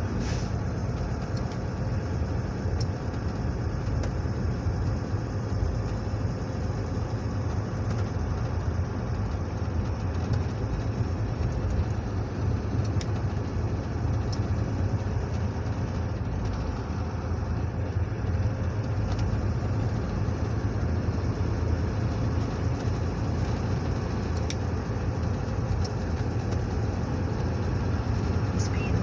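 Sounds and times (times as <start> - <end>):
vehicle engine and tyres humming: 0.0 - 29.0.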